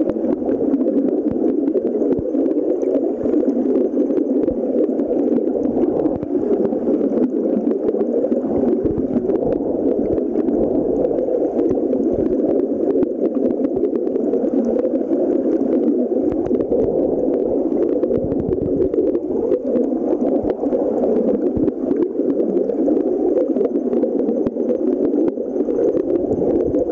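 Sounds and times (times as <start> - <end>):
stream water flowing: 0.0 - 26.9.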